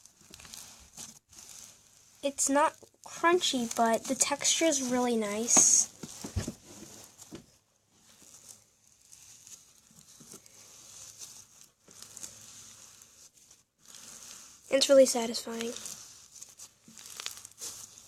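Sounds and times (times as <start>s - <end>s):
slime squeezing with soft crinkling: 0.0s - 18.0s.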